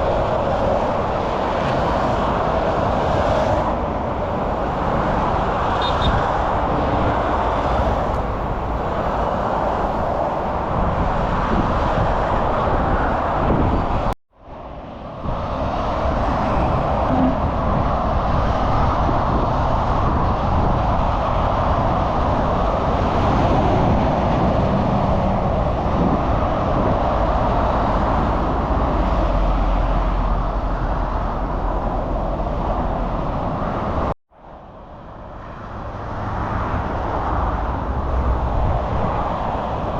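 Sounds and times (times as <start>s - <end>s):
road traffic rushing: 0.0s - 39.9s.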